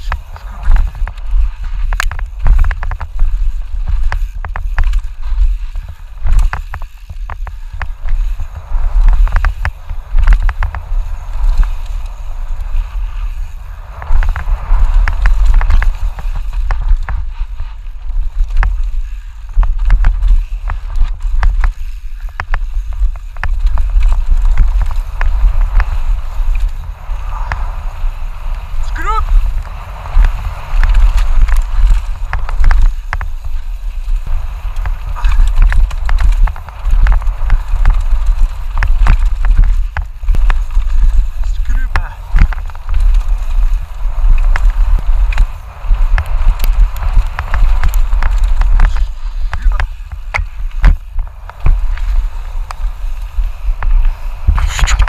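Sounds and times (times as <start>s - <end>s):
bike chain and frame clattering: 0.0s - 55.0s
tyres on dirt and rocks: 0.0s - 55.0s
wind buffeting microphone: 0.0s - 55.0s.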